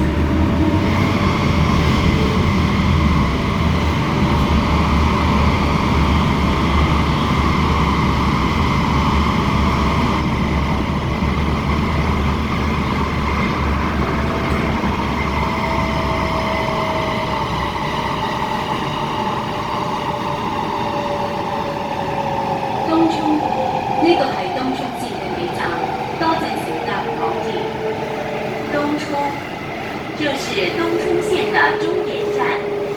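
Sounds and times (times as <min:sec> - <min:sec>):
rumble of wheels on track: 0:00.0 - 0:21.5, 0:22.6 - 0:32.9.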